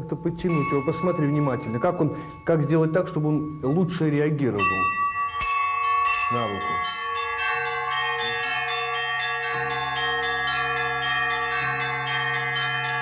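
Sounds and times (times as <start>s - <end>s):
larger bells ringing: 0.0s - 13.0s
small high bells struck quickly: 0.4s - 13.0s.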